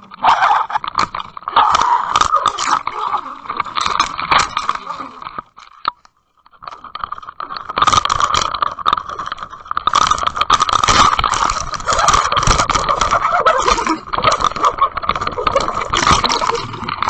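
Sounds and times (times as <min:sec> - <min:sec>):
fish thrashing and splashing: 0:00.8 - 0:05.8, 0:06.6 - 0:17.0.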